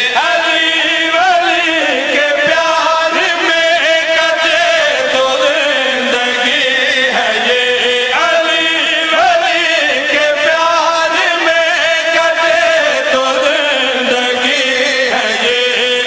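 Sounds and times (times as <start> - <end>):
man chanting through microphone: 0.0 - 16.0.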